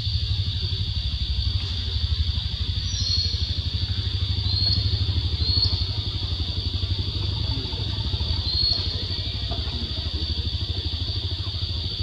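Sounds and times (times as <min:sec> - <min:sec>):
high-pitched insect drone: 0:00.0 - 0:12.0
low pulsing engine rumble: 0:00.0 - 0:12.0.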